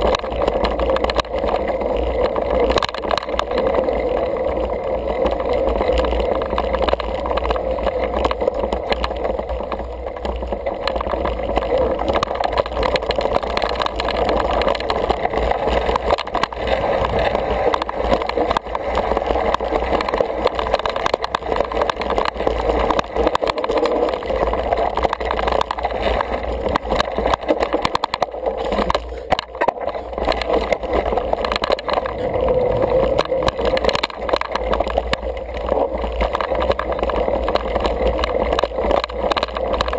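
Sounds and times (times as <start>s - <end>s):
bike knocks and rattles: 0.0s - 39.9s
bike rolling rushing noise: 0.0s - 39.9s.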